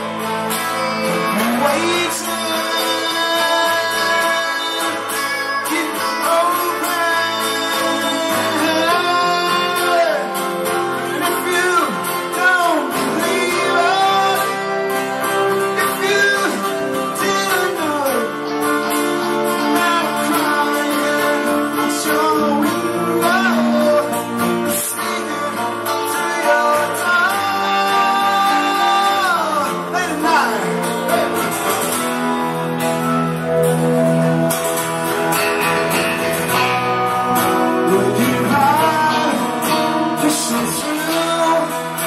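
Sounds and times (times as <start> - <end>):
electric guitar: 0.0 - 42.0
strummed acoustic guitars: 0.0 - 42.0.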